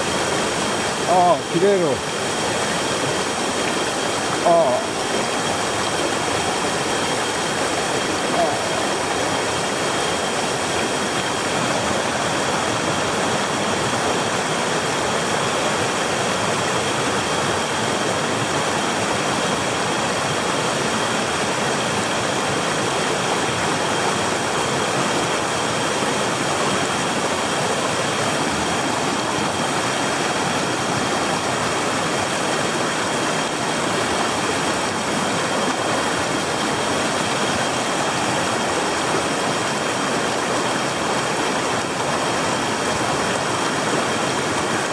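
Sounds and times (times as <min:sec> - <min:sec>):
rushing mountain stream: 0:00.0 - 0:44.9.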